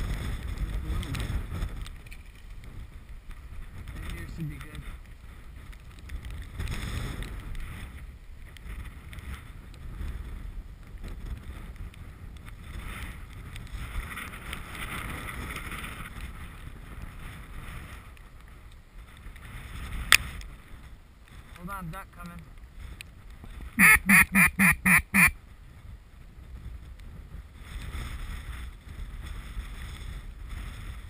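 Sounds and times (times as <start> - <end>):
wind buffeting microphone: 0.0 - 21.6, 22.4 - 31.0.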